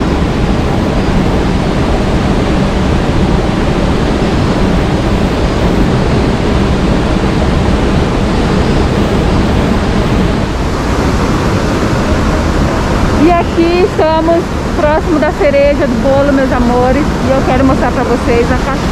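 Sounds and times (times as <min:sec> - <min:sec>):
rushing water: 0:00.0 - 0:18.9.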